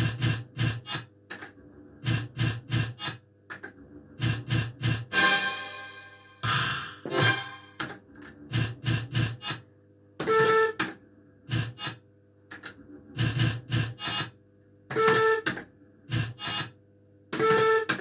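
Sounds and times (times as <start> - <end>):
slot machine reels whirring and clunking: 0.0 - 18.0.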